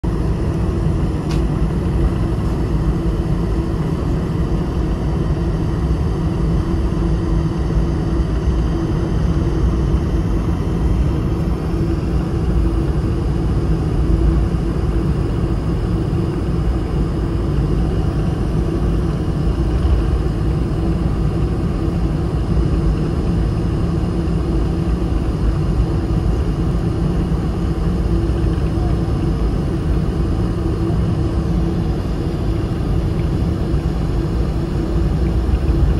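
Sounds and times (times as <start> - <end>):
aircraft engines low rumble: 0.0 - 35.9.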